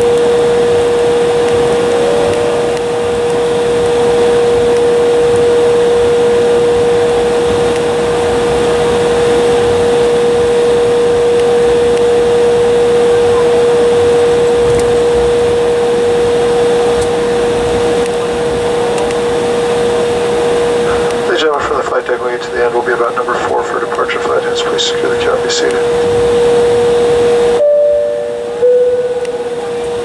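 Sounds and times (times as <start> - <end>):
jet cabin rushing hum: 0.0 - 30.0
mid-pitched whine: 0.0 - 30.0.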